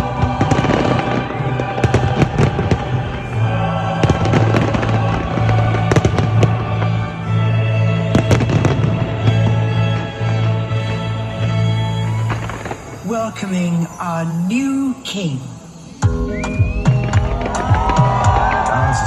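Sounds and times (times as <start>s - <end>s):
music with deep bass: 0.0s - 12.7s, 16.0s - 19.0s
fireworks bangs and crackles: 0.0s - 19.0s.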